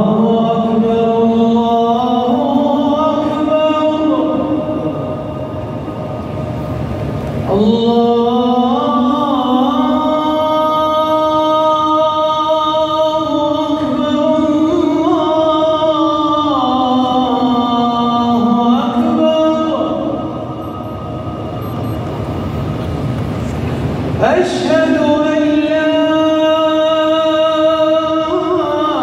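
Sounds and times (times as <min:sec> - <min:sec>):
man chanting call to prayer: 0:00.0 - 0:06.2, 0:07.4 - 0:21.6, 0:24.2 - 0:29.0.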